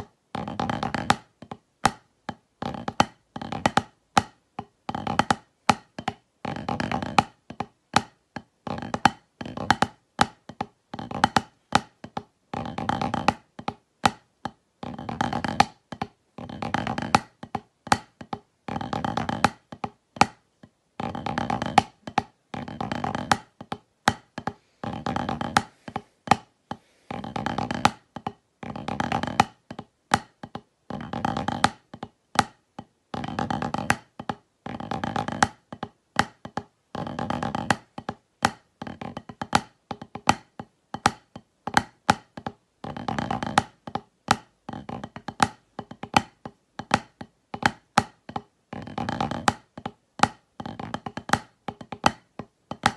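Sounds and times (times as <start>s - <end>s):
drumsticks on a practice pad: 0.0s - 52.9s.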